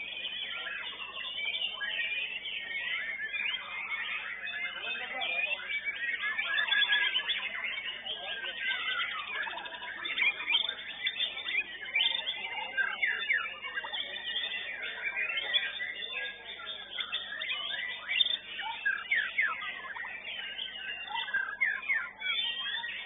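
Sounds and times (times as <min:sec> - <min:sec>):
songbird whistling and chirping: 0:00.0 - 0:23.0.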